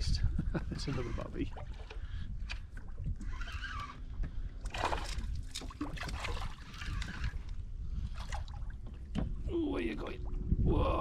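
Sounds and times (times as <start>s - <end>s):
water sloshing around a kayak: 0.4s - 10.6s.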